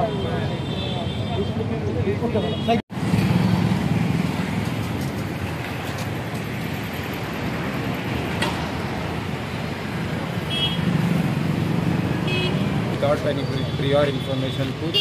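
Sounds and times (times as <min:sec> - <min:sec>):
engines and road traffic: 0:00.0 - 0:15.0.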